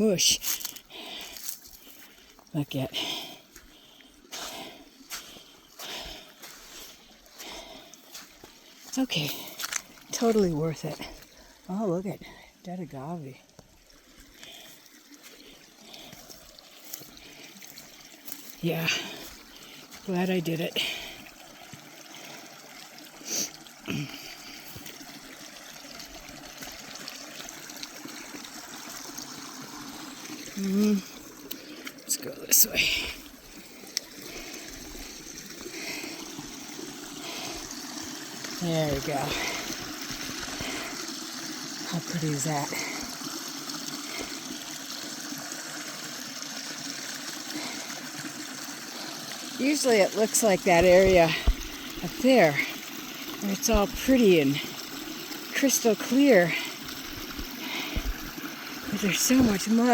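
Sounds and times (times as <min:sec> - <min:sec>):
creek running: 0:00.0 - 0:59.9.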